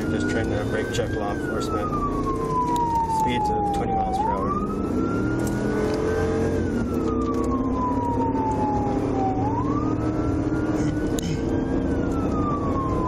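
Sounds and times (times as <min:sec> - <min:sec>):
car engine and road noise: 0:00.0 - 0:13.0
police siren wailing: 0:00.0 - 0:13.0.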